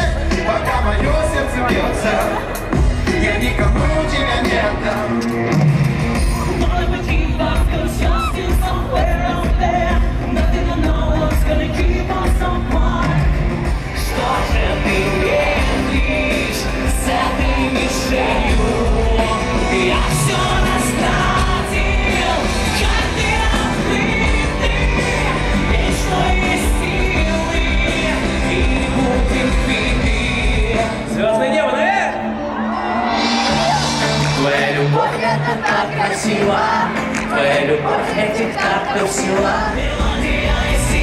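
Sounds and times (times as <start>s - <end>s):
live pop song with singer: 0.0s - 41.0s.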